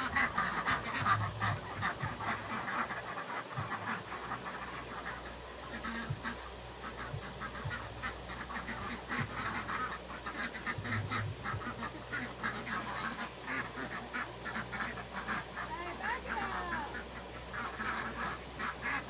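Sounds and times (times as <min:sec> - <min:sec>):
flock of birds calling: 0:00.0 - 0:19.0.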